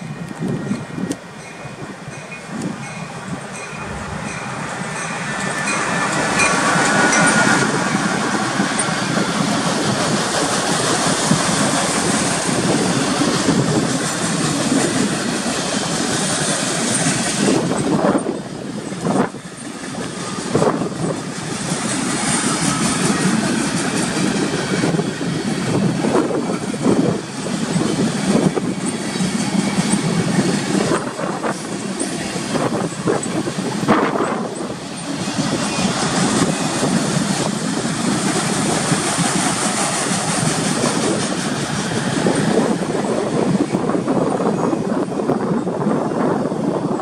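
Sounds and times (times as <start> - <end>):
train wheels rumbling and clattering: 0.0 - 47.0.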